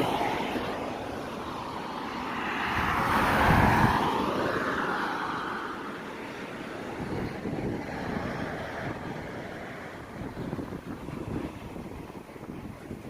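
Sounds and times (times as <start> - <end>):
road vehicle passing by: 0.0 - 13.0.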